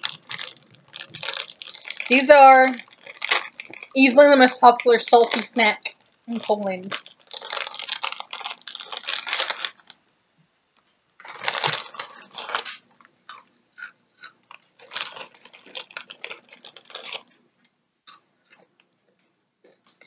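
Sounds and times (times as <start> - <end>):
plastic snack bag crinkling: 0.0 - 10.0, 11.2 - 17.4.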